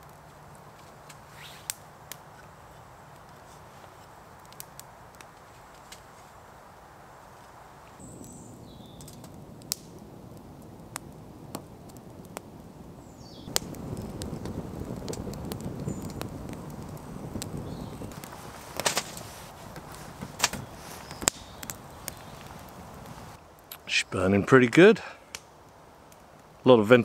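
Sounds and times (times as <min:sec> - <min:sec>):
low rush of flame: 0:00.0 - 0:26.9
wood fire crackling and popping: 0:00.0 - 0:27.0.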